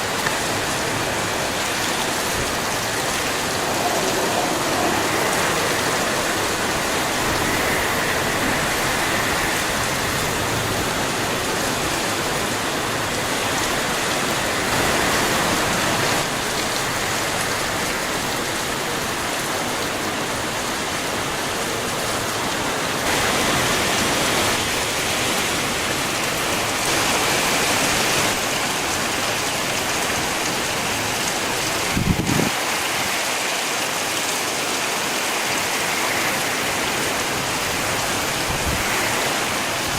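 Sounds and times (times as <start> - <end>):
gusting wind: 0.0 - 39.9
heavy rain: 0.0 - 39.9.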